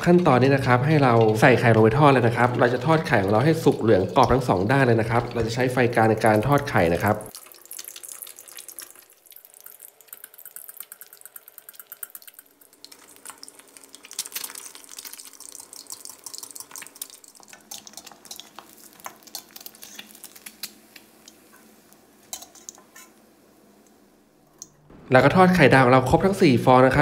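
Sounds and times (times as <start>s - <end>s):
egg sizzling in hot oil: 0.0s - 24.8s.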